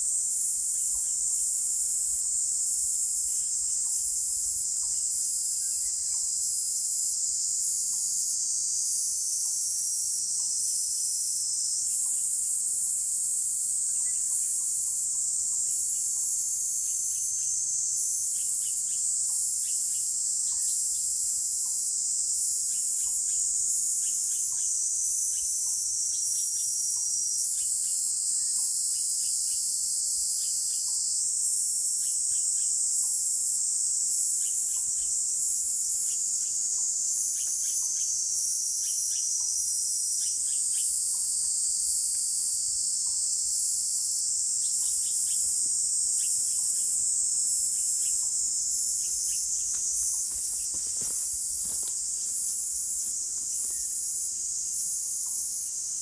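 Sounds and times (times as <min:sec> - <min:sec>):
insects trilling high-pitched: 0:00.0 - 0:56.0
lower insect chirps: 0:00.0 - 0:56.0.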